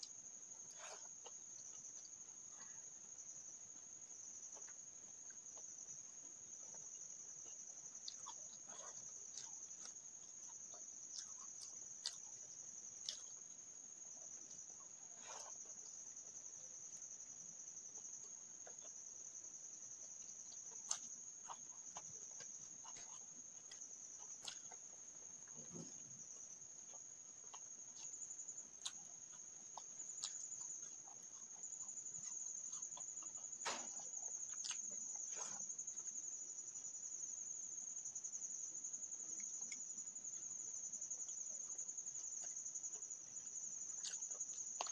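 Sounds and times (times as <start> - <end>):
close-up chewing: 0.0 - 44.9
crickets trilling: 0.0 - 44.9.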